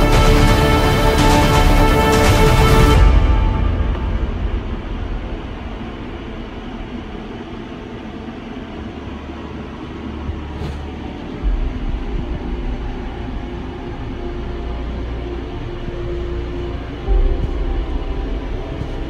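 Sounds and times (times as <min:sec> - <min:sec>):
dark droning music: 0:00.0 - 0:19.0.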